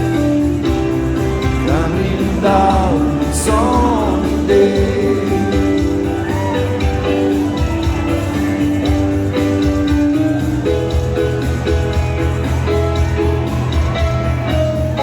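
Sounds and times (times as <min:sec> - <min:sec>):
bass: 0:00.0 - 0:15.0
steady drum beat: 0:00.0 - 0:15.0
strummed guitar chords: 0:00.0 - 0:15.0.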